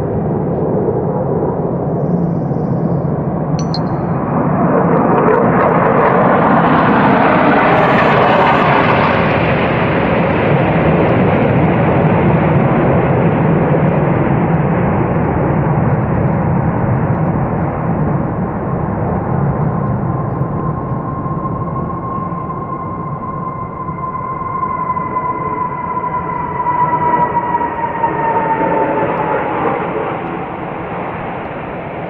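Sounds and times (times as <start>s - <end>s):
jet aircraft roar flying past: 4.2s - 32.0s.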